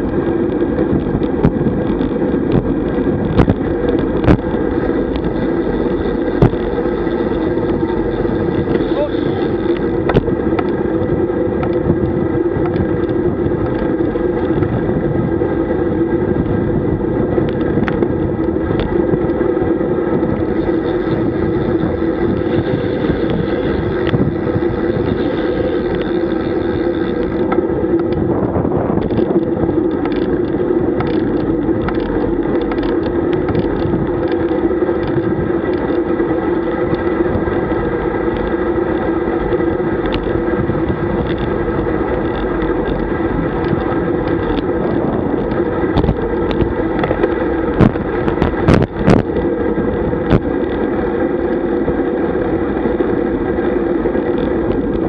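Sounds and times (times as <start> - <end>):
bicycle ticks and knocks: 0.0 - 55.0
wind and road noise: 0.0 - 55.0.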